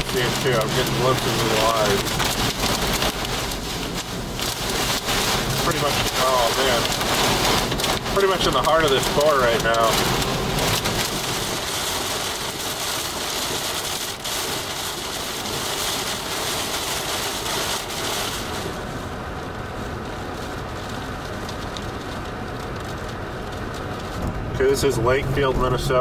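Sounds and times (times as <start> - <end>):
heavy rain on vehicle roof: 0.0 - 26.0
vehicle hum on wet road: 0.0 - 26.0.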